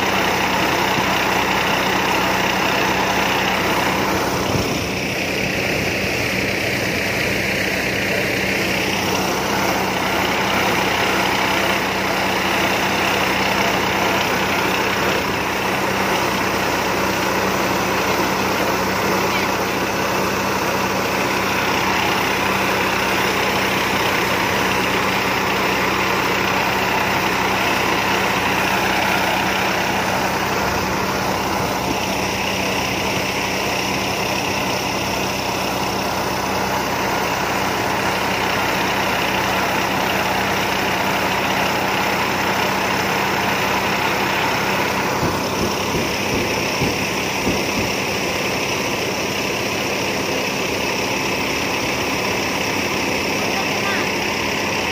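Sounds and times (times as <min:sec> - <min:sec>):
combine harvester engine humming: 0:00.0 - 0:54.9.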